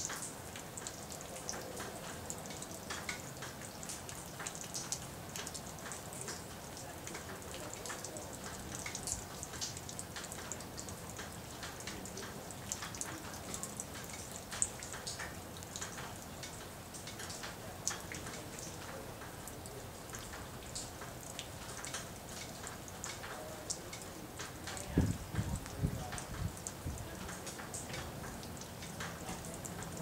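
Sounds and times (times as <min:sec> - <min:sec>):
rain hissing: 0:00.0 - 0:30.0
raindrops ticking on surface: 0:00.0 - 0:30.0.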